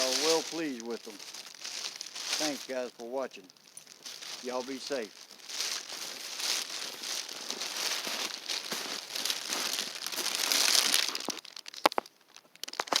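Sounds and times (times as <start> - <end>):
crinkling fabric rustle: 0.0 - 13.0.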